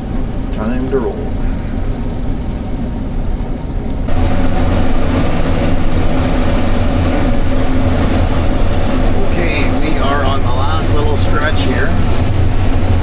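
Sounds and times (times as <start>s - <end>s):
combine harvester engine and threshing: 0.0s - 13.0s.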